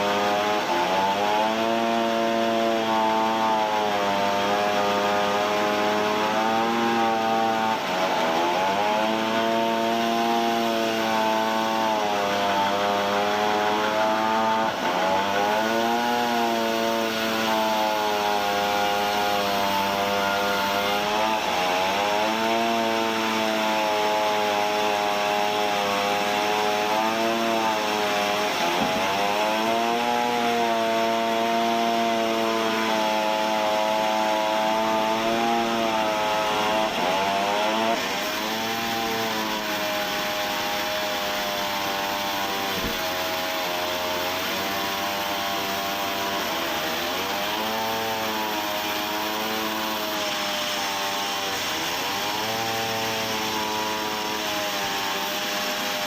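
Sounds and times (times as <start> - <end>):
saw cutting through log: 0.0 - 56.0.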